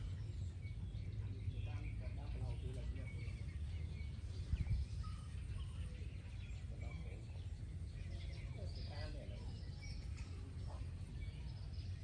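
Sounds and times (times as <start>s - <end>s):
faint bird chirps: 0.0s - 12.0s
low outdoor rumble: 0.0s - 12.0s.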